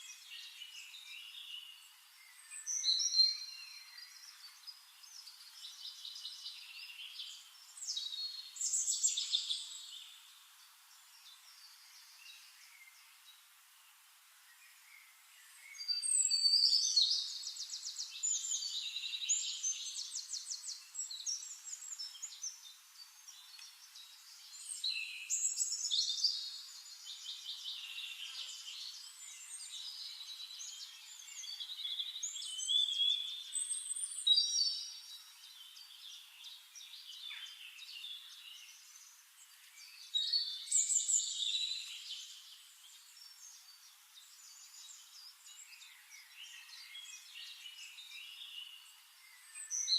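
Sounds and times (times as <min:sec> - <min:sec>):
songbird trills and whistles: 0:00.0 - 0:10.2, 0:14.6 - 0:49.9
faint outdoor background: 0:00.0 - 0:49.9.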